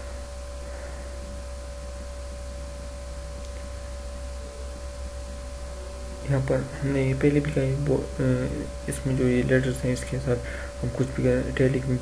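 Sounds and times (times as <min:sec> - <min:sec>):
constant hiss: 0:00.0 - 0:12.0
electrical hum: 0:00.0 - 0:12.0.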